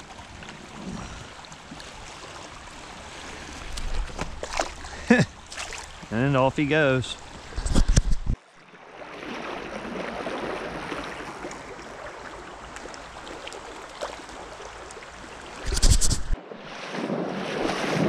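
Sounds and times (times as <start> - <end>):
stream water rushing: 0.0 - 16.7.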